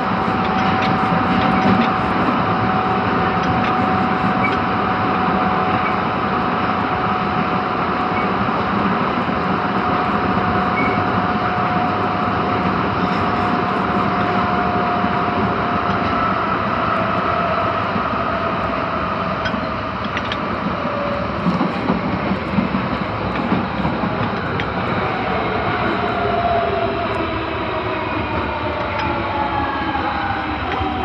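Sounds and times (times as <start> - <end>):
wheel and track rumbling: 0.0 - 31.0.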